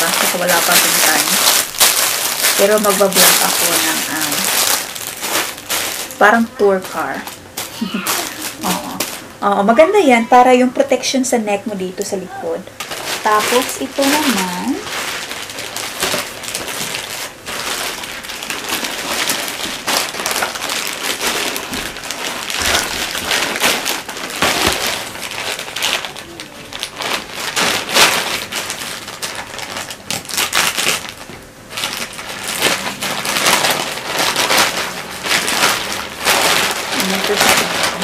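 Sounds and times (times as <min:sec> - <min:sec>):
plastic packaging crinkling: 0:00.0 - 0:10.6, 0:11.6 - 0:38.0.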